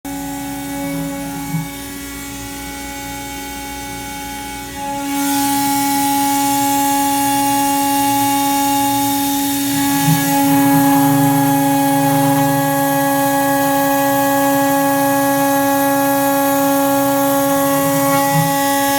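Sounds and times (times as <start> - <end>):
machine tool whine: 0.1 - 18.9
mechanical hum: 0.1 - 18.9.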